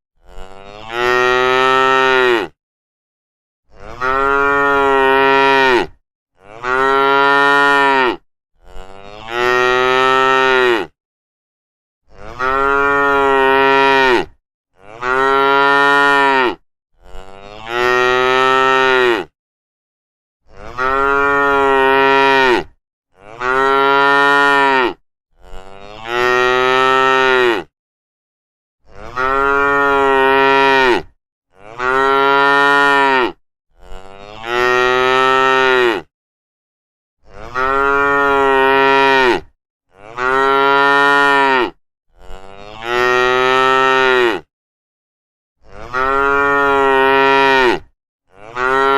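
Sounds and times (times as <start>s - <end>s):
cows mooing: 0.2s - 2.6s, 3.8s - 10.9s, 12.1s - 19.3s, 20.6s - 27.7s, 29.0s - 36.1s, 37.4s - 44.5s, 45.7s - 48.9s.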